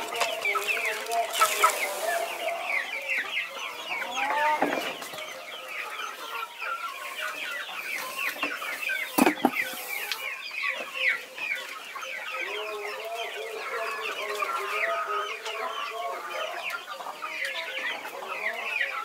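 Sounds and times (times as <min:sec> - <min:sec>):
young chickens clucking and peeping: 0:00.0 - 0:19.0.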